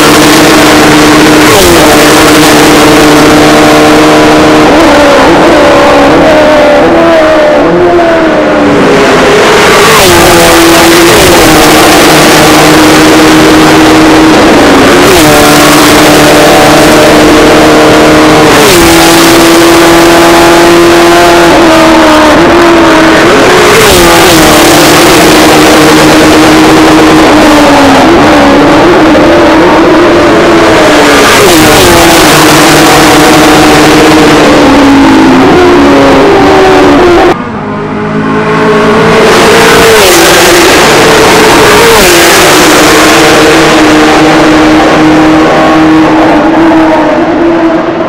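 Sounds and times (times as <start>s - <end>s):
race car engines passing: 0.0s - 48.0s.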